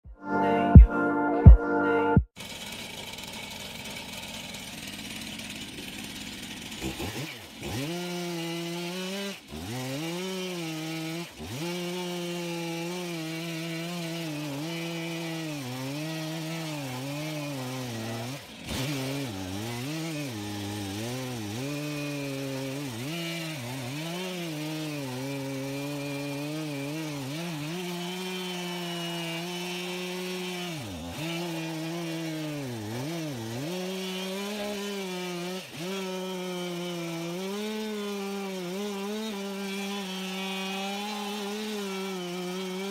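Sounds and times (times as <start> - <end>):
chainsaw engine at high revs: 2.4 - 42.9.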